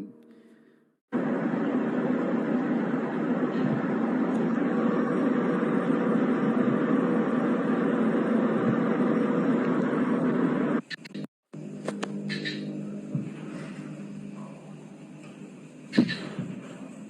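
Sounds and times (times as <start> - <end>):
steady rumbling: 1.1 - 17.0.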